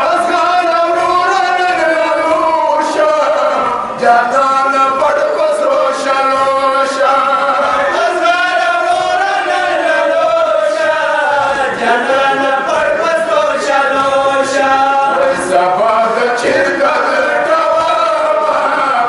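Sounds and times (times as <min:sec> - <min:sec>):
men chanting into a microphone: 0:00.0 - 0:19.0.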